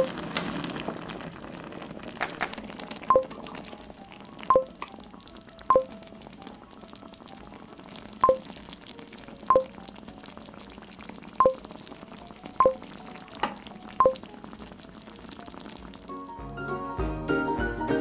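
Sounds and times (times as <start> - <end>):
sauce simmering in a pan: 0.0 - 16.8.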